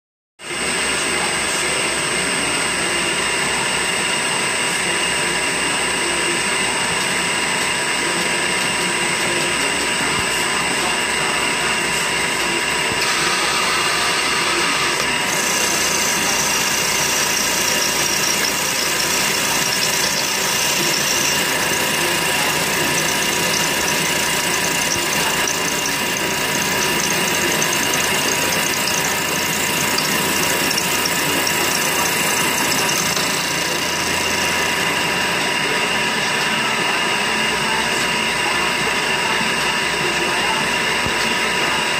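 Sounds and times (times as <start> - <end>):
spindle whine: 1.2 - 41.9
milling machine cutting metal: 2.0 - 41.9.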